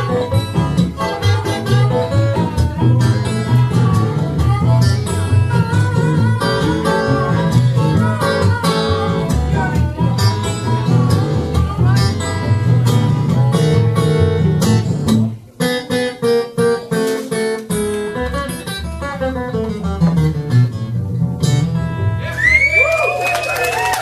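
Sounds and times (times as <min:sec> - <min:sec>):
acoustic guitars playing blues: 0:00.0 - 0:22.8.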